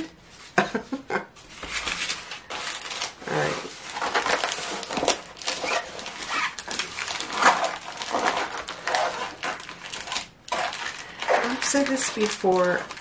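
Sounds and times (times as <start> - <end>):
plastic film crinkling and rustling: 1.5 - 13.0.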